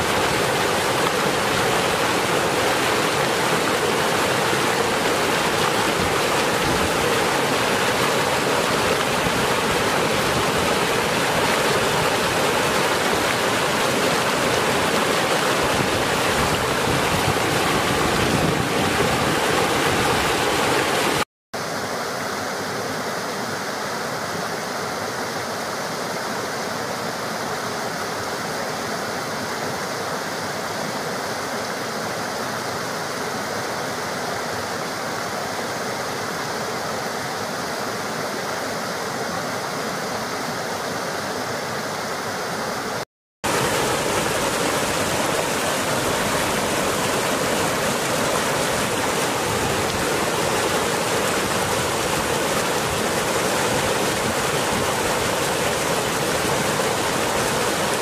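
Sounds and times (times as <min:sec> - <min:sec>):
stream cascading over rocks: 0:00.0 - 0:58.0.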